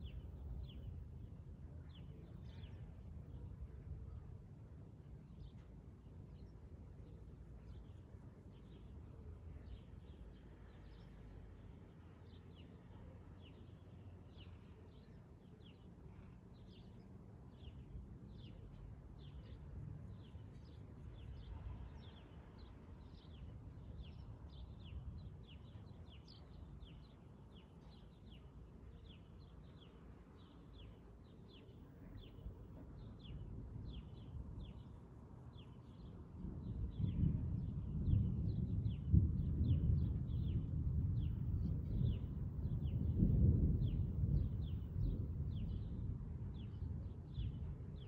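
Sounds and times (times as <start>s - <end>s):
faint low rumble: 0.0s - 5.7s, 8.6s - 48.0s.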